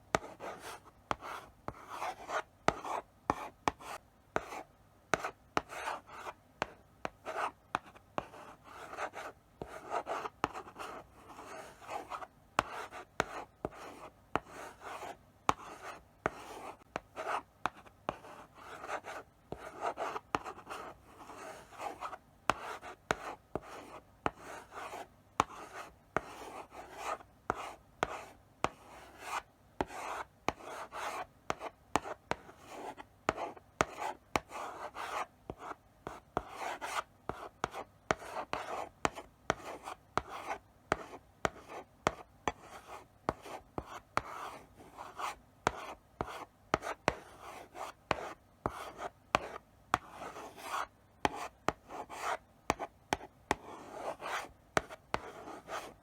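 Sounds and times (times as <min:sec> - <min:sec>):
chalk tapping on board: 0:00.1 - 0:10.9, 0:14.4 - 0:20.9, 0:21.5 - 0:56.0
chalk scratching on blackboard: 0:00.1 - 0:56.0.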